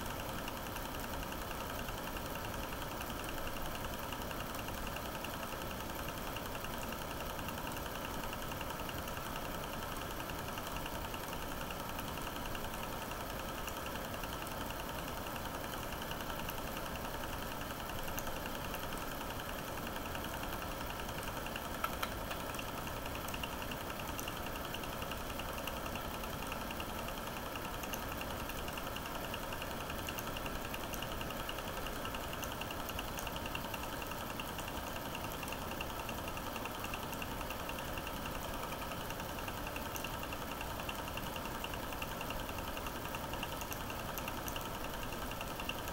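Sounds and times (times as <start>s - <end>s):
film projector whirring and clattering: 0.0s - 45.9s.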